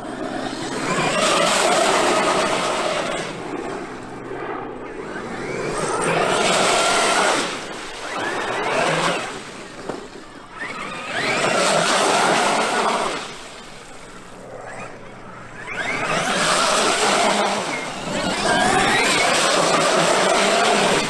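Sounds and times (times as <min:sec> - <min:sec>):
rc truck motor whine: 0:00.0 - 0:21.0.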